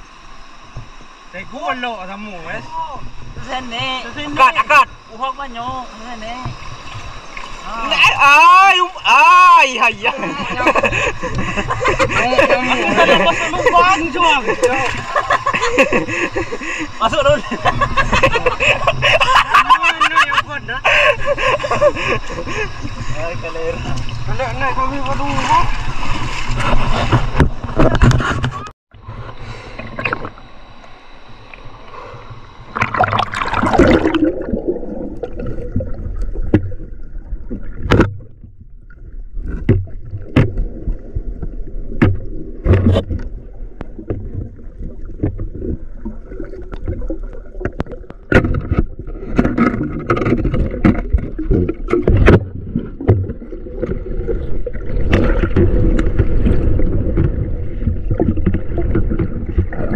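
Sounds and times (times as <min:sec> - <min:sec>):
water gurgling and sloshing: 0:00.0 - 0:59.9.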